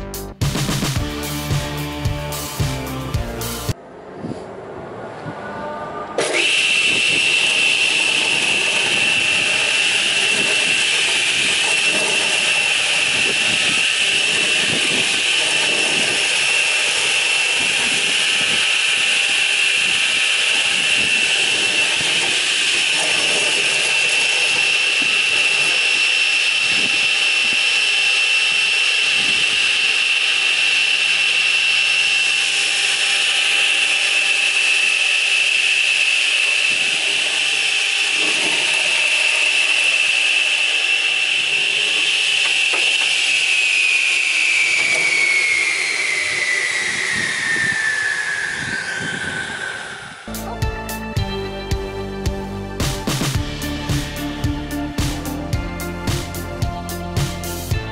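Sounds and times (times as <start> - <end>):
radial arm saw whining: 5.3 - 52.3, 53.0 - 57.9.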